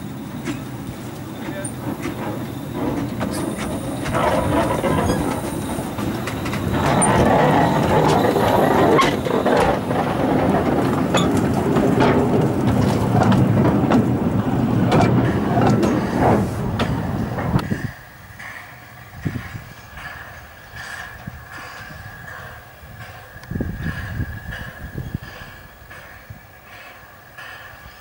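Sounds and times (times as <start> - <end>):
train wheels clattering over rails: 0.0 - 28.0.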